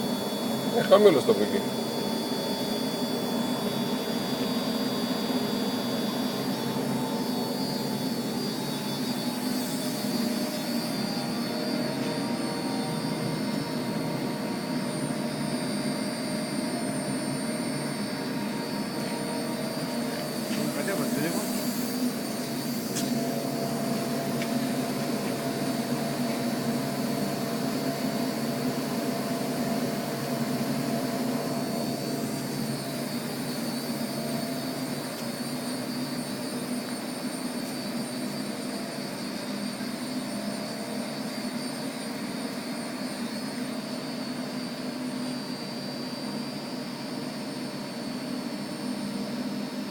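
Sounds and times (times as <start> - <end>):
machine hum: 0.0 - 44.8
thin high whine: 0.0 - 49.9.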